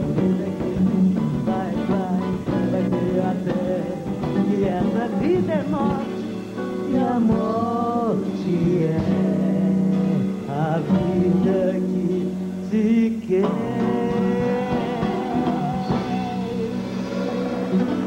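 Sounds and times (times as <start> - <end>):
nylon-string acoustic guitar: 0.0 - 18.0
small band playing: 0.0 - 18.0.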